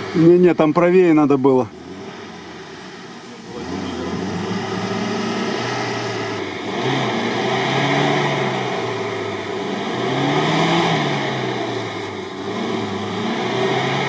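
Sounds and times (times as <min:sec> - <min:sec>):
engine revving under heavy load: 0:00.0 - 0:14.0.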